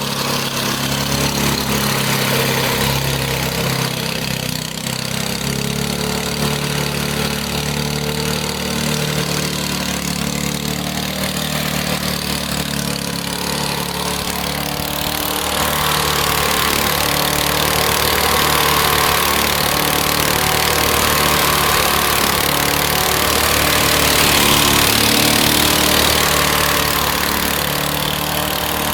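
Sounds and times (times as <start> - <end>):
lawn mower engine running: 0.0 - 28.9.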